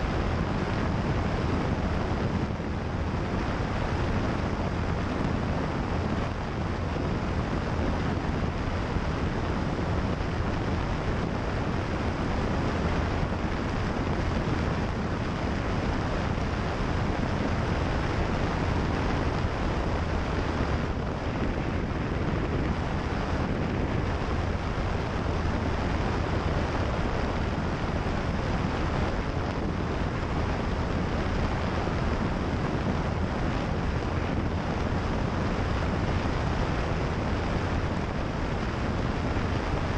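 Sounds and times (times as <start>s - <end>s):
propeller plane engine drone: 0.0s - 39.9s
wind rushing over microphone: 0.0s - 39.9s.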